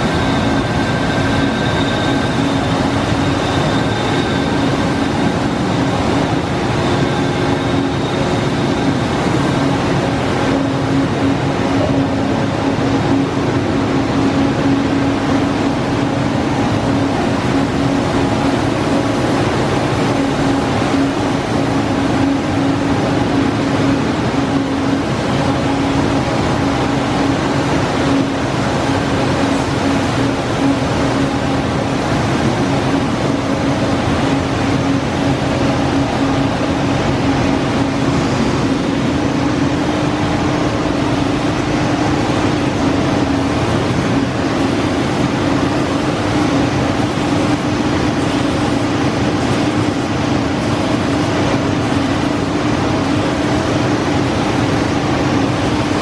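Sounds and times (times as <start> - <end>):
constant machine hum: 0.0 - 56.0
printing press mechanical whir: 0.0 - 56.0.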